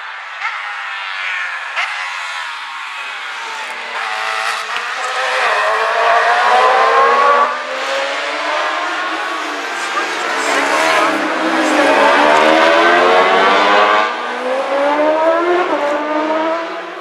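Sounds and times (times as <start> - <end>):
racing sidecar engines passing: 0.4 - 17.0.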